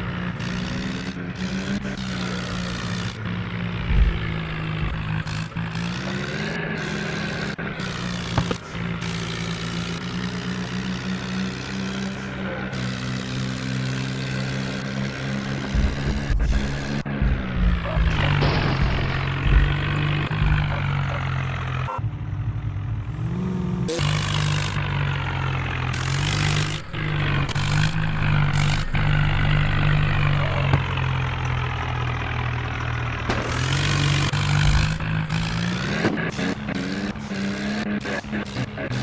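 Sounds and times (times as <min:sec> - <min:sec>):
bursts of rushing noise: 0:00.0 - 0:22.0, 0:24.0 - 0:39.0
tractor diesel engine revving: 0:00.0 - 0:39.0.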